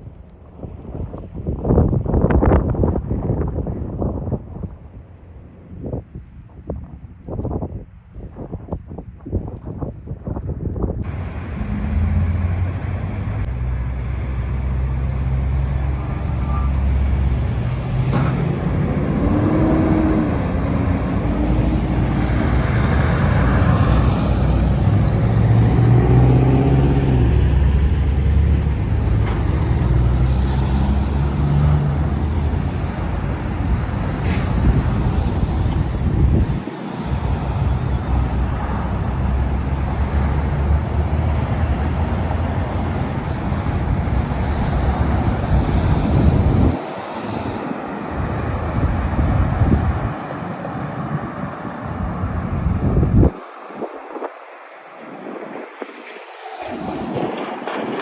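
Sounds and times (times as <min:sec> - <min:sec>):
road noise: 0:00.0 - 0:58.0
diesel truck engine rumble: 0:11.0 - 0:58.0.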